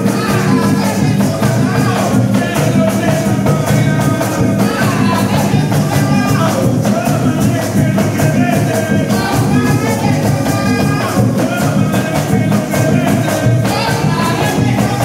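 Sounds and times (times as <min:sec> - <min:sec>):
music with quick steady beat: 0:00.0 - 0:15.0.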